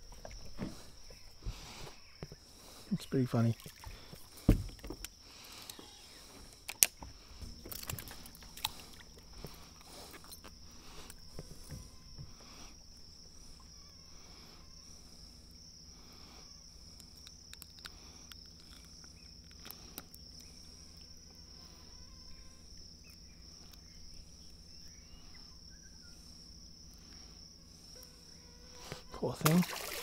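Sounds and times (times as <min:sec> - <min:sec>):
insects trilling: 0:00.0 - 0:30.0
low steady hum: 0:00.0 - 0:30.0.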